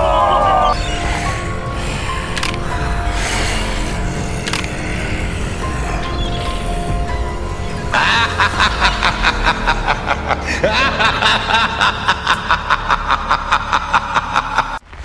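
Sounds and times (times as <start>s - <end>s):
background music: 0.0s - 14.8s.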